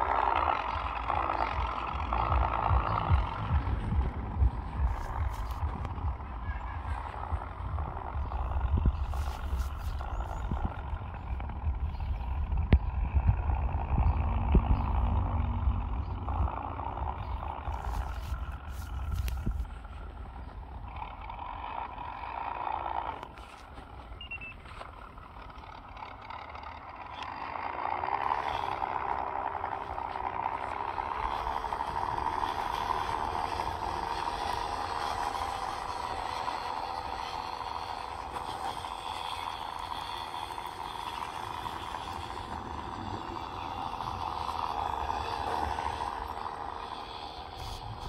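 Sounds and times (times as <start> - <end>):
toy car motor whining: 0.0 - 48.0.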